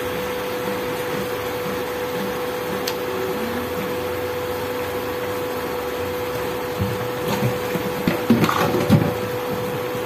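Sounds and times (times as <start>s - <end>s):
chicken sizzling in a frying pan: 0.0s - 10.0s
cooker hum: 0.0s - 10.0s.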